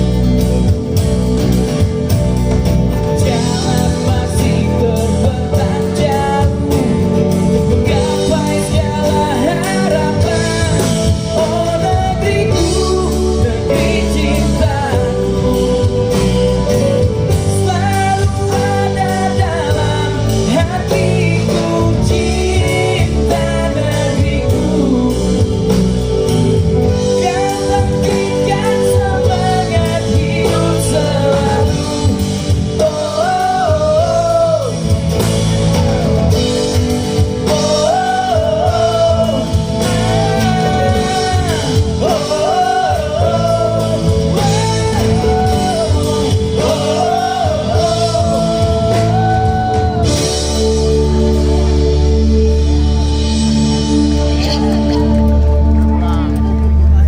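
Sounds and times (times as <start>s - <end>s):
lead singer singing: 0.0s - 57.0s
live pop band: 0.0s - 57.0s.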